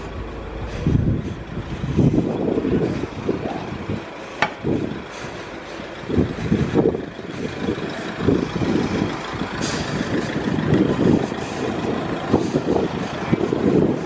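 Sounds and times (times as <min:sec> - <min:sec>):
heavy vehicle engine running: 0:00.0 - 0:14.0
street traffic: 0:00.0 - 0:14.0.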